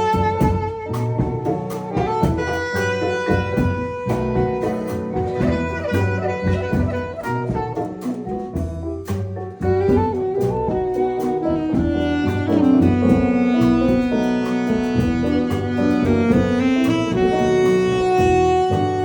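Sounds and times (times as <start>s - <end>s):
instrumental band jamming: 0.0s - 19.0s
pulsing bass line: 0.0s - 19.0s.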